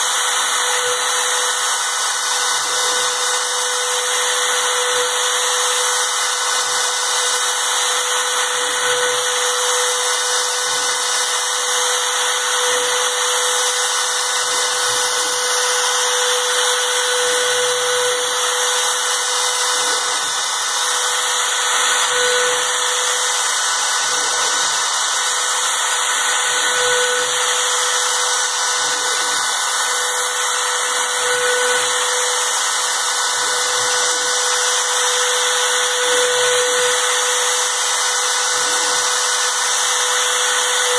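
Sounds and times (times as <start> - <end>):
power tool grinding: 0.0 - 40.9.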